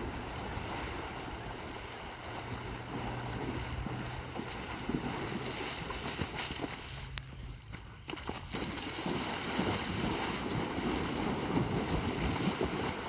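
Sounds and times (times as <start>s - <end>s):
horse wading through mud: 0.0s - 13.0s
water splashing and churning: 0.0s - 13.0s
wind buffeting microphone: 0.0s - 13.0s.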